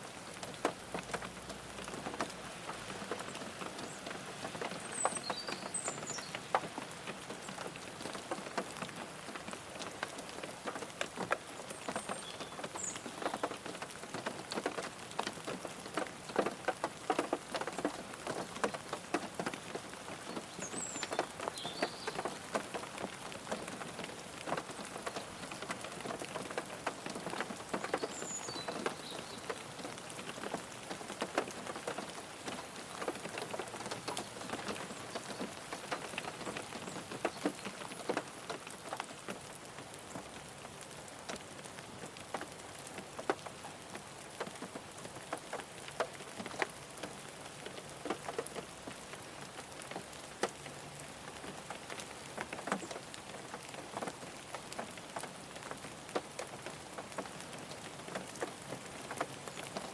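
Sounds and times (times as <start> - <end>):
rain on a car: 0.0 - 59.9.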